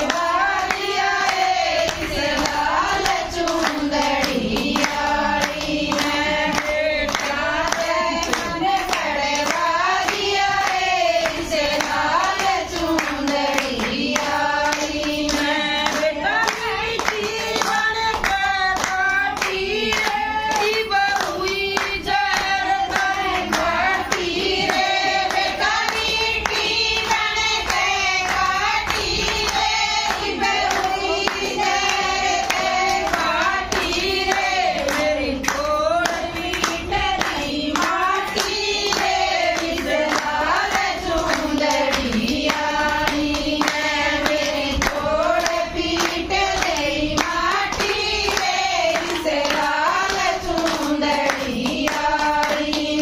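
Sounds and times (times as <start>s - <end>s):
hand claps: 0.0s - 53.0s
women singing together: 0.0s - 53.0s.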